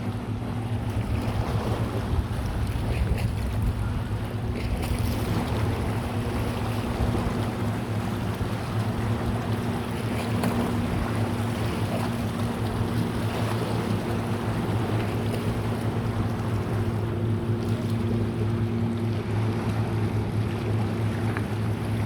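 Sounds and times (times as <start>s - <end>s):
boat engine humming: 0.0s - 22.0s
water noise: 0.0s - 22.0s
wind: 0.0s - 22.0s.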